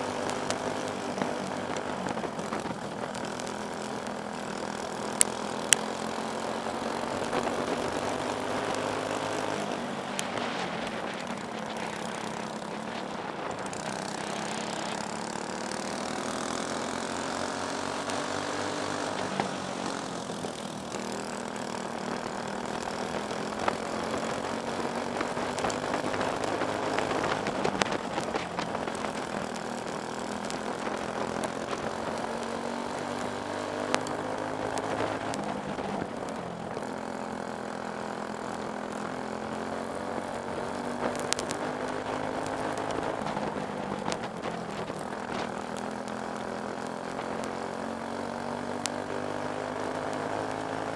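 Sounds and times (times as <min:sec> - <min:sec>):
kart engine racing: 0:00.0 - 0:50.9
other kart engines: 0:00.0 - 0:50.9.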